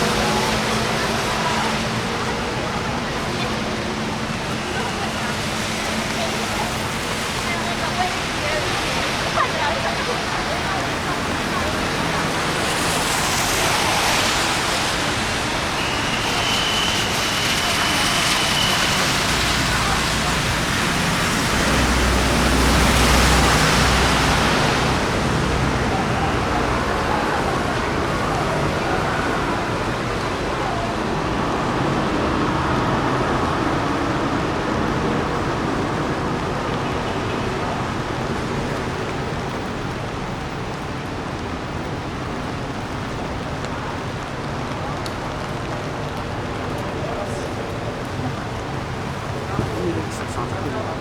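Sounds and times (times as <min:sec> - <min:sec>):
rain hissing: 0:00.0 - 0:51.0
tyres on wet road: 0:00.0 - 0:51.0.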